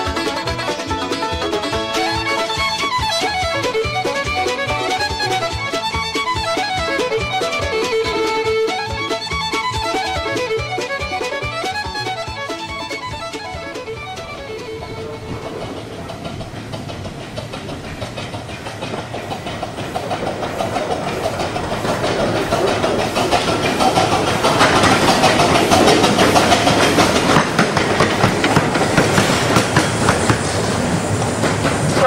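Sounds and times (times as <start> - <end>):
train wheels clattering over rail joints: 0.0 - 32.0.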